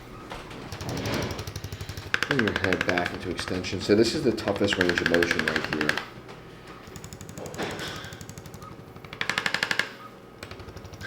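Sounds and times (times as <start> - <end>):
adjusting instrument tapping rapidly: 0.7 - 6.2, 6.8 - 11.0.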